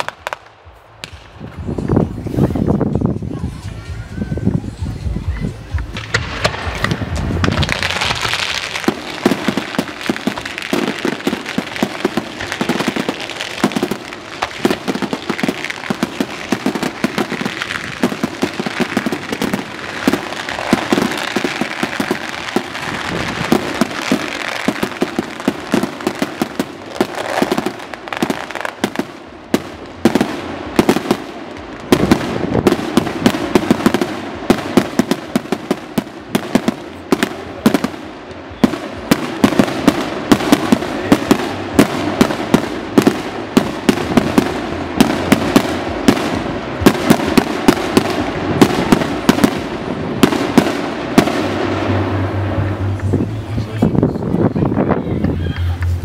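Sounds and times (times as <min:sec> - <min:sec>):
fireworks bangs: 0:00.0 - 0:04.8, 0:05.7 - 0:56.0.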